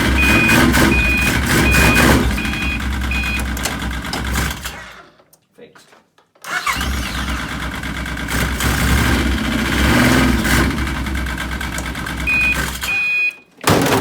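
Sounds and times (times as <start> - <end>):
engine rumbling: 0.0 - 5.0, 6.5 - 13.0.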